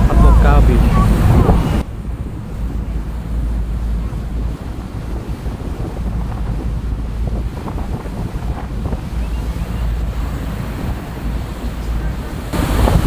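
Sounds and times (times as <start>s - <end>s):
boat engine rumble: 0.0s - 13.0s
water rushing past hull: 0.0s - 13.0s
wind buffeting microphone: 0.0s - 13.0s.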